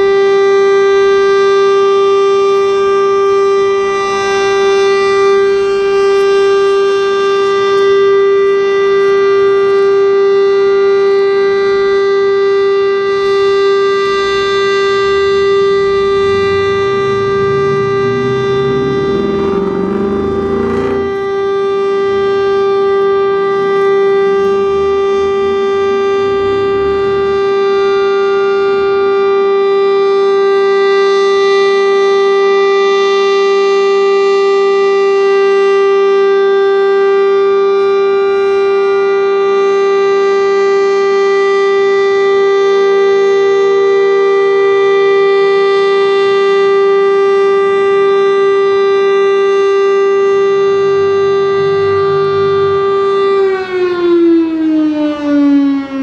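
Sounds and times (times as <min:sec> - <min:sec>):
outdoor warning siren steady tone: 0:00.0 - 0:56.0.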